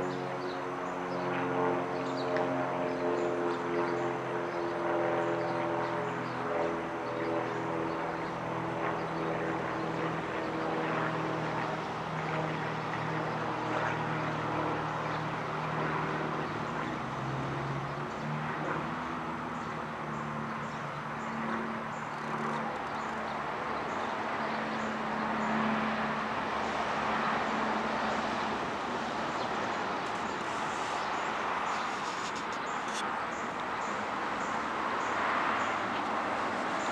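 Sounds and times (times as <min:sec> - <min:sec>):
propeller plane droning overhead: 0:00.0 - 0:36.9.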